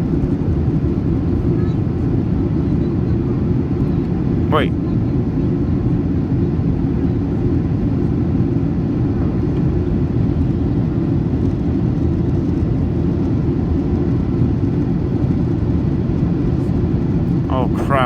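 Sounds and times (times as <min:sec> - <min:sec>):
engine and airflow rumble in cabin: 0:00.0 - 0:18.0.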